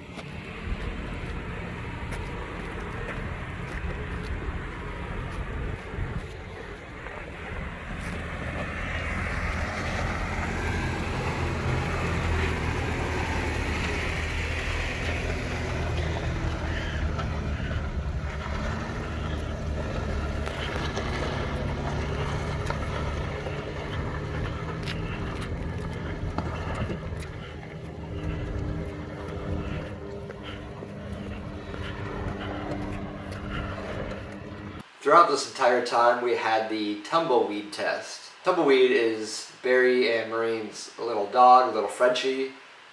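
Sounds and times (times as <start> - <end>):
car engine running: 0.0 - 34.8.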